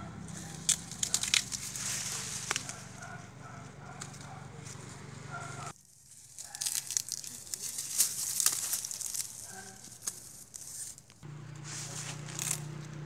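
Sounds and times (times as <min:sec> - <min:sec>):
dry corn leaves crackling: 0:00.2 - 0:13.0.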